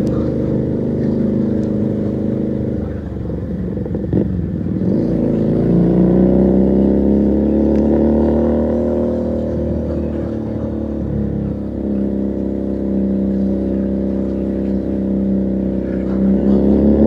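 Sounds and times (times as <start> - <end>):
motorcycle engine while riding: 0.0 - 17.0.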